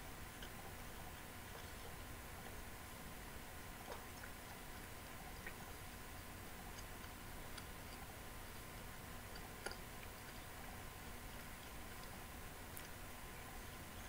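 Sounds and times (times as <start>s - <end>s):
low steady hiss: 0.0s - 14.0s
person chewing bread: 0.1s - 14.0s.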